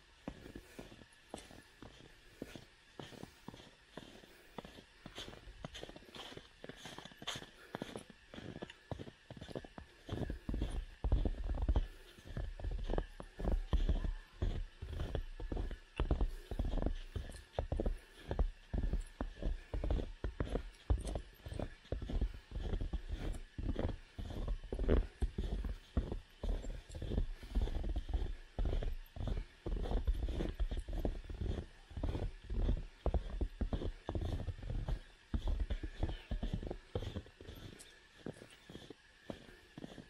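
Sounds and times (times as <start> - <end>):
footsteps crunching in snow: 0.2 - 40.0.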